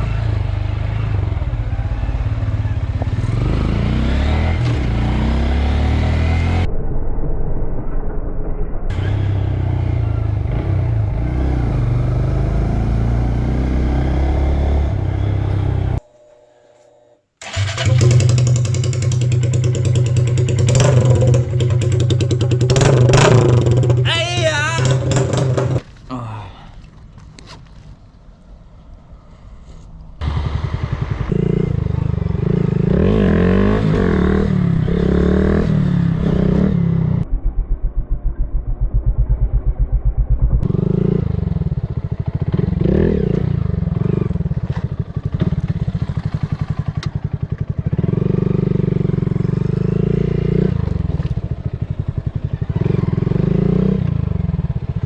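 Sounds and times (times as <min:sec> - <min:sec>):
motorcycle engine accelerating: 0:00.0 - 0:06.9, 0:08.9 - 0:16.0, 0:17.4 - 0:25.8, 0:30.2 - 0:55.0.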